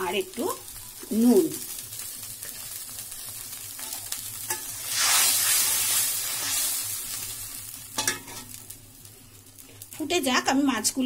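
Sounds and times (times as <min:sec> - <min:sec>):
boiling water hissing and bubbling: 0:00.0 - 0:11.0.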